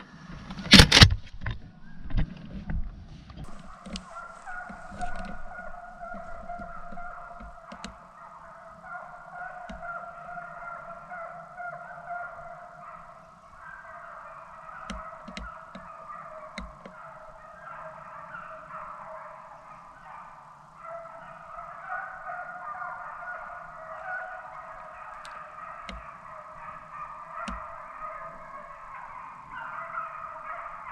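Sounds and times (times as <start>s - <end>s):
hounds baying: 3.4s - 30.9s.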